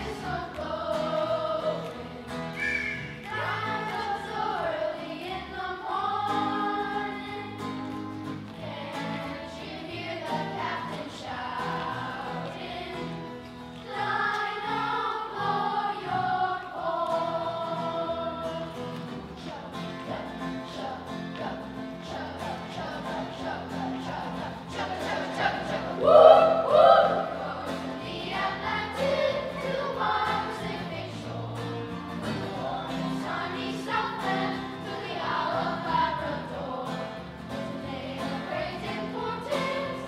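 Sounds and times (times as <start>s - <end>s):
children's choir singing: 0.0s - 40.0s.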